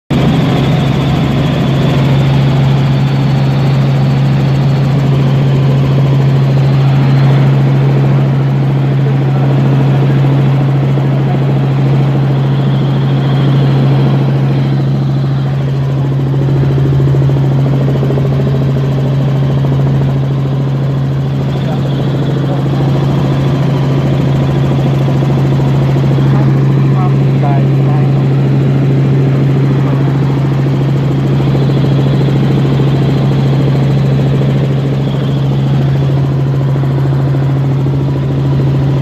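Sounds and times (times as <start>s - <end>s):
helicopter engine and rotors drone: 0.1s - 39.0s.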